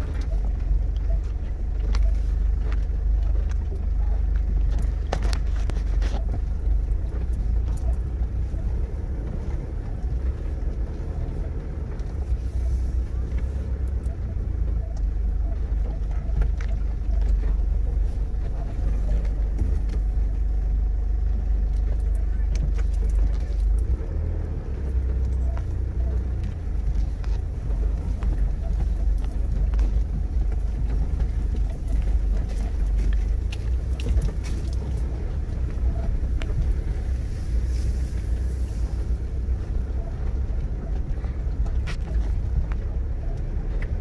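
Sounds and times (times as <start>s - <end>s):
light clicks and ticks: 0.0s - 44.0s
low engine rumble: 0.0s - 44.0s.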